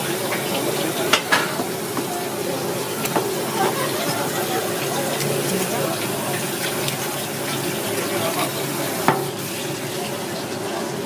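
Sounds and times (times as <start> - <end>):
shower hose spraying water: 0.0 - 11.0.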